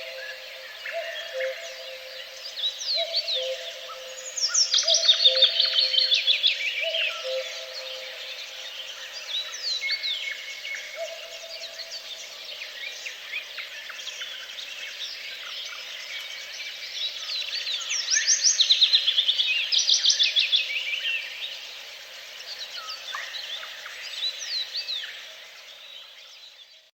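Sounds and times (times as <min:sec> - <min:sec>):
songbirds singing: 0:00.0 - 0:21.6.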